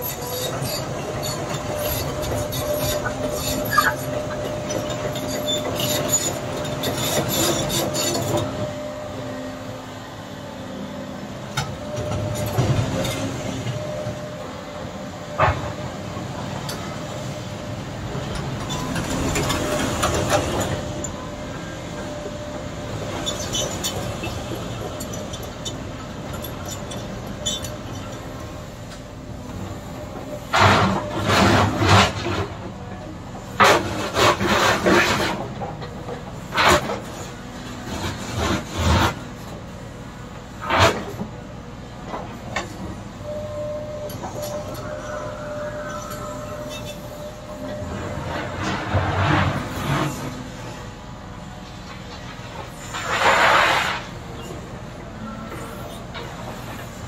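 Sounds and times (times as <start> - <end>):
excavator running: 0.0 - 57.0.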